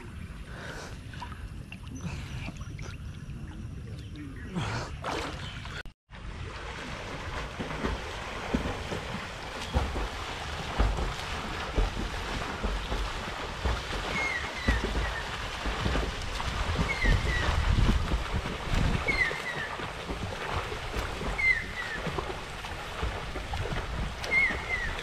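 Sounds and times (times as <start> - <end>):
water splashing: 0.0 - 25.0.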